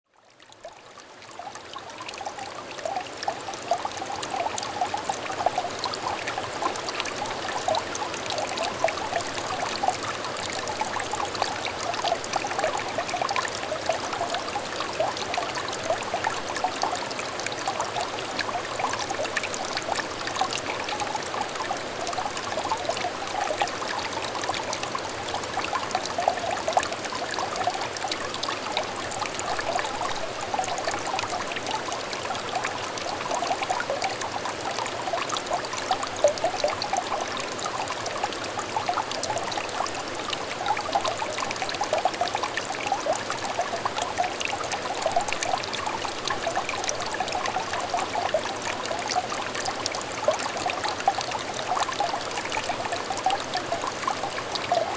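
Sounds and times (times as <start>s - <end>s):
stream trickling over stones: 0.1s - 54.9s.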